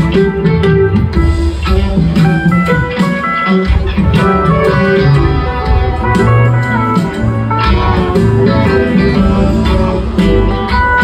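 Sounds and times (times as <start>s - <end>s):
live band playing instrumental: 0.0s - 11.0s
sustained electric guitar notes: 0.0s - 11.0s.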